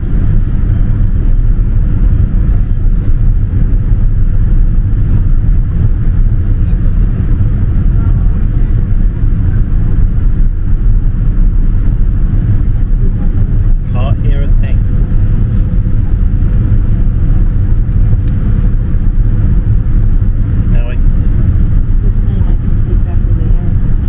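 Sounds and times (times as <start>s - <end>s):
aircraft cabin roar in flight: 0.0s - 24.0s.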